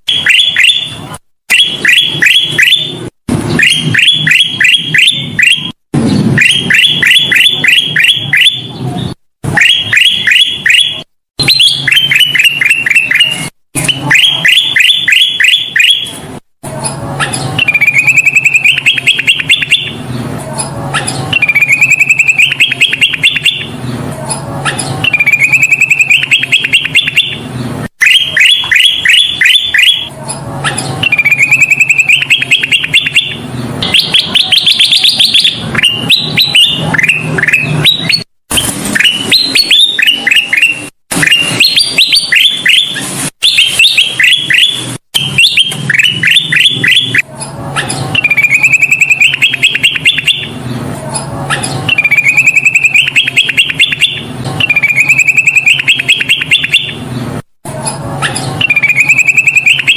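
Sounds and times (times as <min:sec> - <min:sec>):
bird chirping song: 0:00.0 - 0:57.3, 0:58.2 - 0:59.9.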